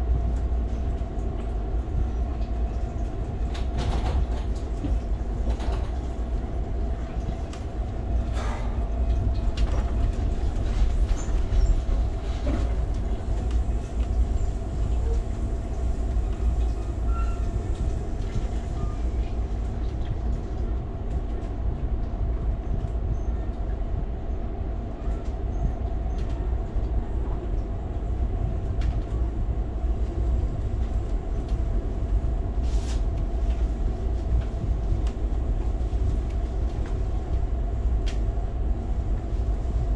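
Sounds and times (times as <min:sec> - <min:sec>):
constant hum: 0:00.0 - 0:39.9
train wheels rumbling on rail: 0:00.0 - 0:39.9.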